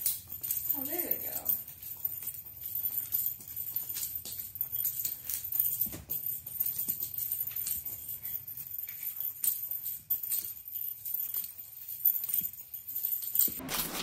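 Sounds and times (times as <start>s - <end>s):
small bell jingling: 0.0s - 13.6s.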